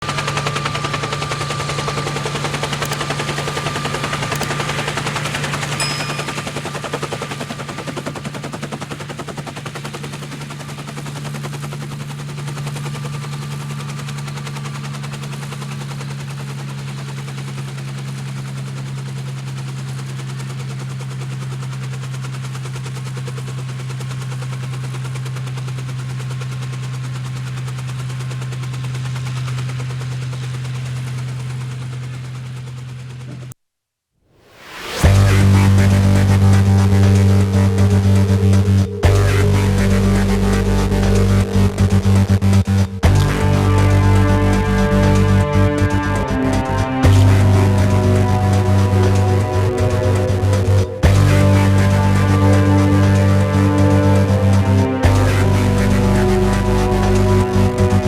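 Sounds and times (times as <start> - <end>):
low mechanical hum with rattling: 0.0 - 33.6, 35.0 - 58.0.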